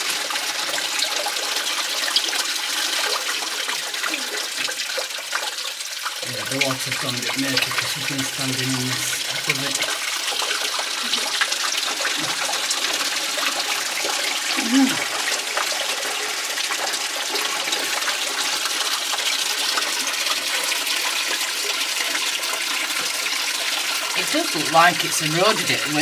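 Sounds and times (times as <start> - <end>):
water rushing and falling: 0.0 - 26.0.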